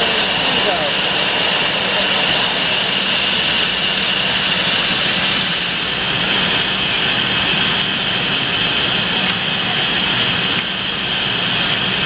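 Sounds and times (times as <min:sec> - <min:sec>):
lathe spindle high whine: 0:00.0 - 0:12.0.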